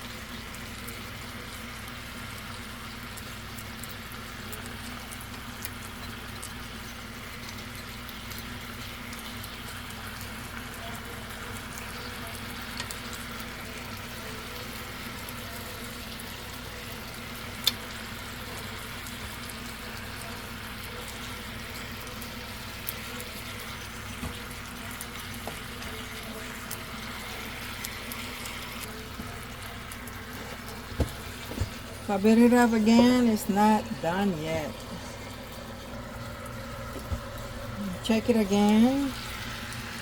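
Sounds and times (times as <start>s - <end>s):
chicken sizzling: 0.0s - 40.0s.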